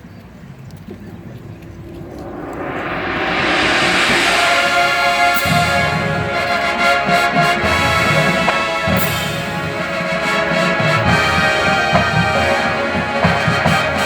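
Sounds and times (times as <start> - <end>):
sharp percussion hits: 1.0 - 14.0
marching band playing: 1.7 - 14.0.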